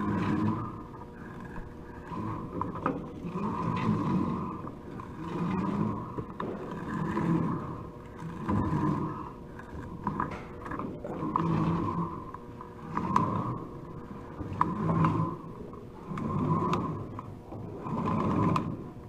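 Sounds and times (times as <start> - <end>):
cables scraping over plastic spool: 0.0 - 19.0.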